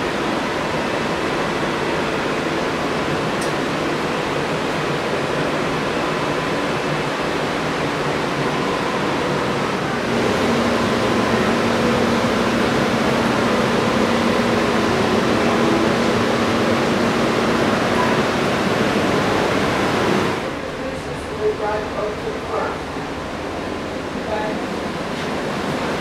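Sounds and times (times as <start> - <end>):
ventilation rushing: 0.0 - 26.0.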